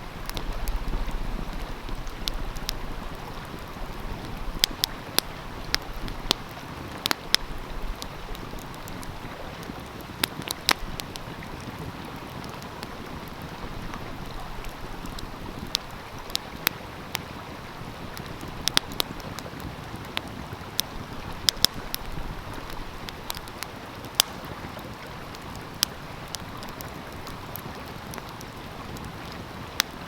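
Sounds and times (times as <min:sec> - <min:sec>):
flowing stream: 0:00.0 - 0:30.0
wood fire crackling and popping: 0:00.1 - 0:30.0.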